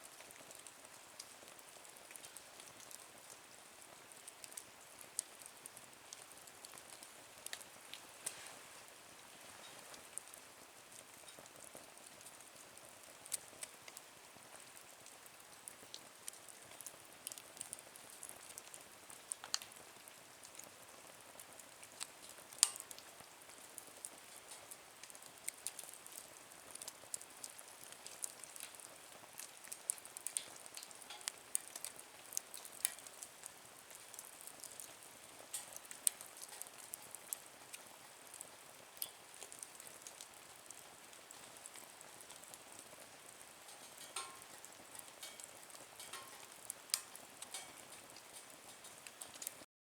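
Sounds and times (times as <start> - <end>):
wood fire crackling: 0.0 - 49.7.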